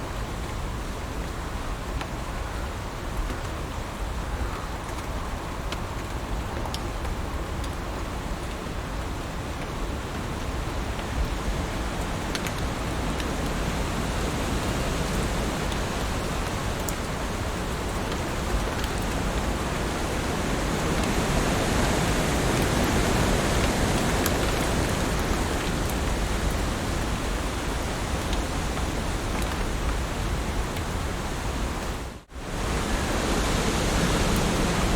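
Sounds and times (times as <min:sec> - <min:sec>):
heavy rain falling: 0:04.9 - 0:34.9.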